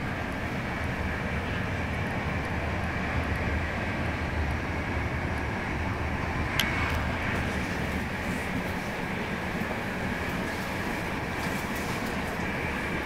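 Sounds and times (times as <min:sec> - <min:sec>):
passenger train running: 0:00.0 - 0:13.0.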